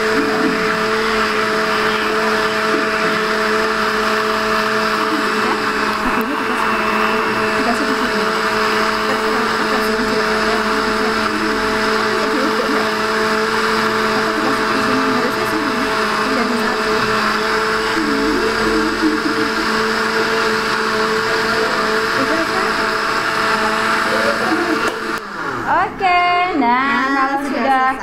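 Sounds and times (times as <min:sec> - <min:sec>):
blender motor whine: 0:00.0 - 0:28.0.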